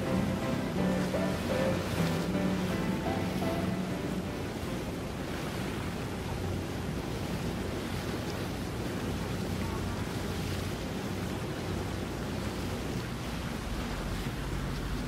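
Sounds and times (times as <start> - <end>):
boat engines humming: 0.0 - 15.0
water noise: 0.0 - 15.0.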